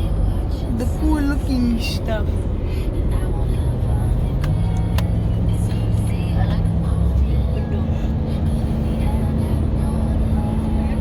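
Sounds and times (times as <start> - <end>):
constant low hum: 0.0 - 11.0
road and engine drone: 0.0 - 11.0.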